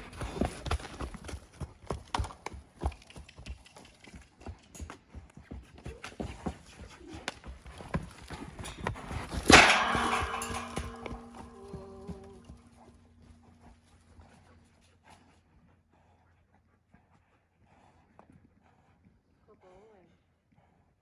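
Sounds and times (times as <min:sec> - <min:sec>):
horse hoofbeats: 0:00.0 - 0:20.8.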